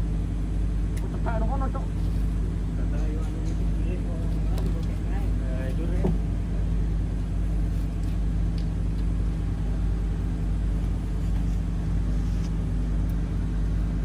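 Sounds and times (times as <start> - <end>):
ship engine humming: 0.0 - 14.0.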